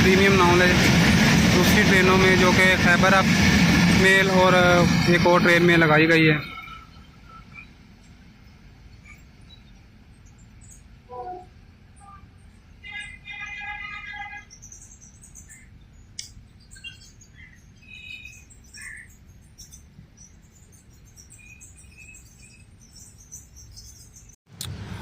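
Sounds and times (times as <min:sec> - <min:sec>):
birds chirping: 0:00.0 - 0:24.4.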